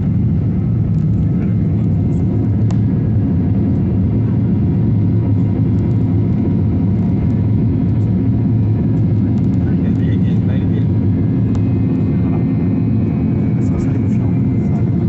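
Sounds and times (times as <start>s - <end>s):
airplane engines running: 0.0s - 15.0s.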